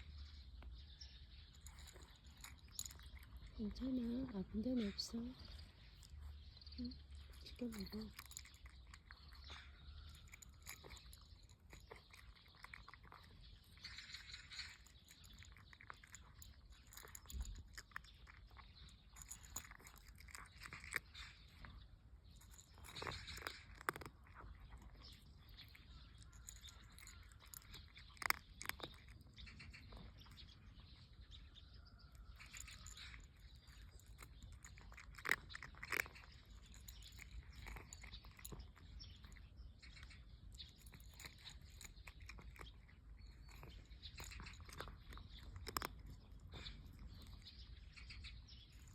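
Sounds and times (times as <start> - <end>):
cat crunching food: 0.0 - 48.9.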